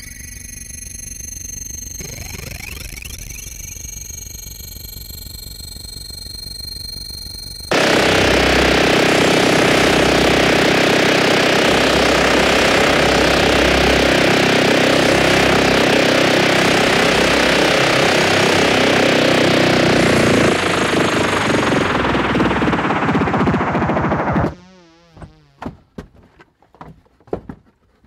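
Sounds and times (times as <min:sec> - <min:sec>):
harsh rattling machine buzz: 0:00.0 - 0:25.7.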